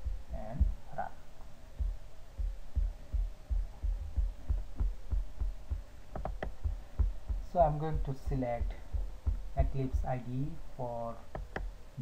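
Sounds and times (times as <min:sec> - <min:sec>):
dull low thumps: 0:00.0 - 0:01.0, 0:01.8 - 0:10.7.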